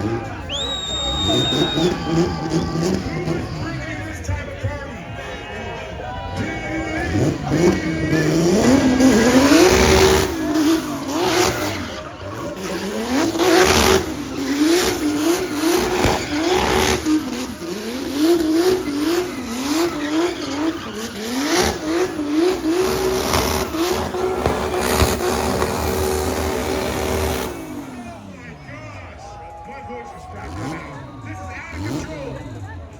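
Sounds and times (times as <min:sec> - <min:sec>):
car engine revving: 0:00.0 - 0:32.9
tyres squealing: 0:00.0 - 0:32.9.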